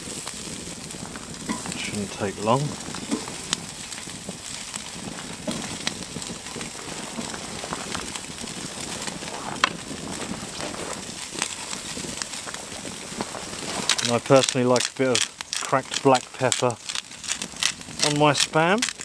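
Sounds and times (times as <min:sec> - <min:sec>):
campfire crackling and popping: 0:00.0 - 0:19.0
meat sizzling on a grill: 0:00.0 - 0:19.0.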